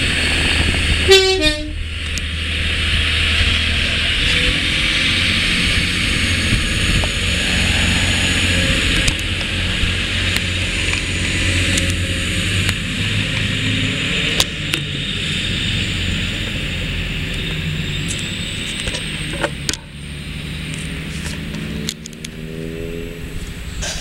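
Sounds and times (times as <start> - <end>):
diesel train engine drone: 0.0 - 24.0
rail noise: 0.0 - 24.0.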